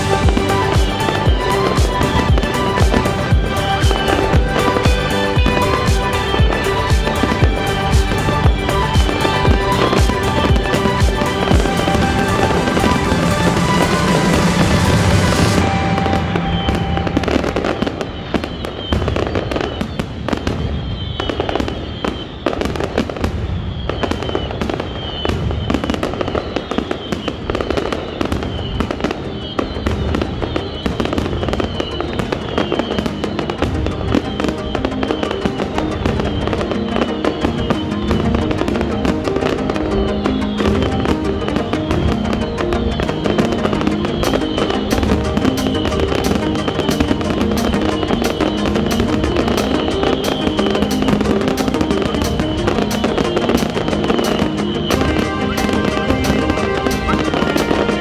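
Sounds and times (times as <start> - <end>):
music playing: 0.0 - 23.3, 24.0 - 58.0
fireworks bangs and crackling: 0.0 - 58.0.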